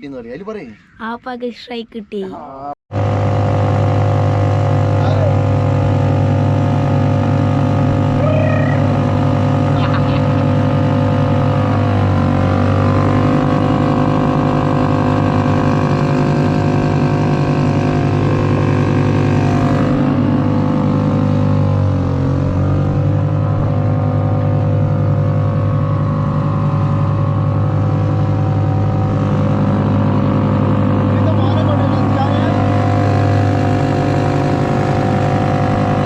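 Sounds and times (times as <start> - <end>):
outboard motor running: 2.4 - 36.0.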